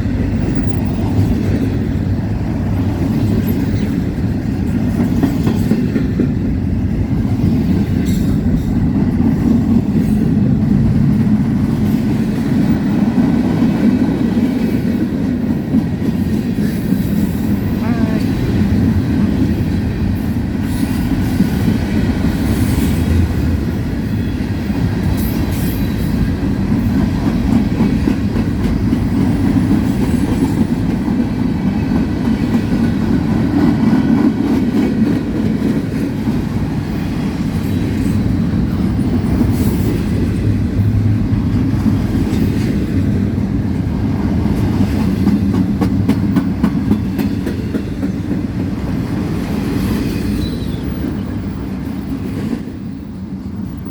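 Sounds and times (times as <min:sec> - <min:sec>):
wheels clacking over rail joints: 0:00.0 - 0:53.8
train wheels rumbling on rails: 0:00.0 - 0:53.9.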